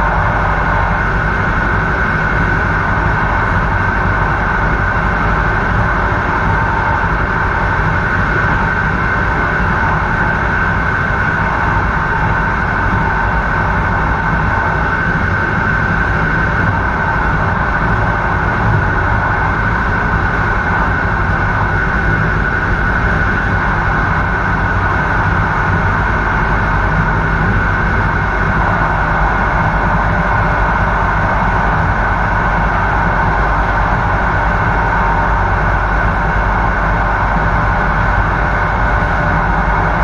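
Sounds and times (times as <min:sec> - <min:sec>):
train rumble and rail hiss: 0:00.0 - 0:40.0.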